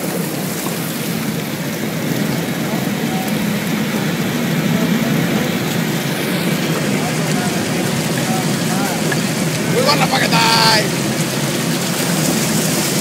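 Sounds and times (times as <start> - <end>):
boat breaking through ice: 0.0 - 13.0
ice and water grinding on hull: 0.0 - 13.0.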